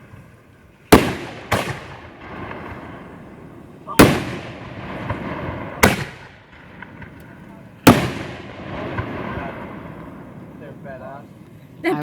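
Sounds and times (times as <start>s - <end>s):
fireworks booming: 0.9s - 11.5s.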